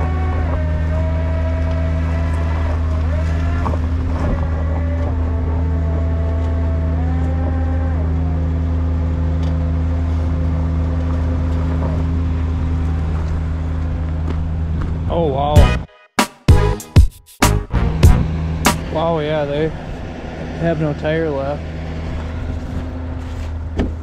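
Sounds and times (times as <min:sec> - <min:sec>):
winch whine: 0:00.0 - 0:16.8, 0:17.4 - 0:24.0
diesel engine drone: 0:00.0 - 0:24.0.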